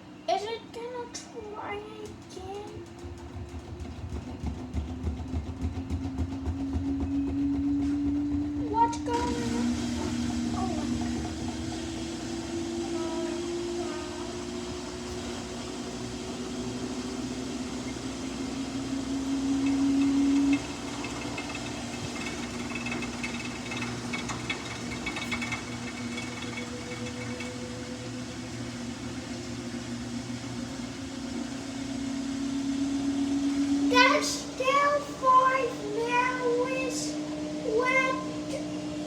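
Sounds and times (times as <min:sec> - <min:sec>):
washing machine motor whining: 0:00.0 - 0:39.0.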